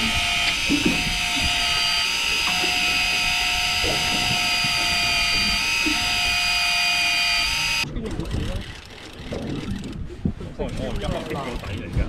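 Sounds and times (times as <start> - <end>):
fishing reel motor whining: 0.0 - 10.0.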